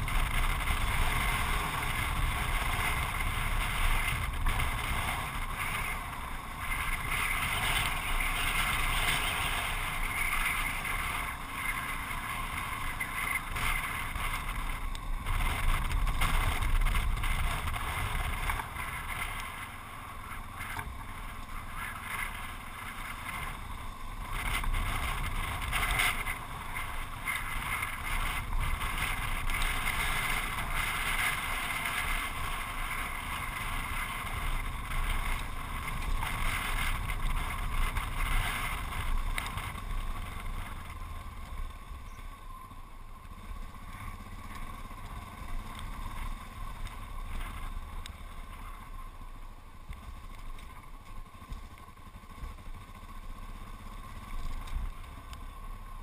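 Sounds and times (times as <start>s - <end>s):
wind noise: 0.0s - 52.8s
motorcycle engine running: 0.0s - 56.0s
tyres on gravel: 0.0s - 56.0s.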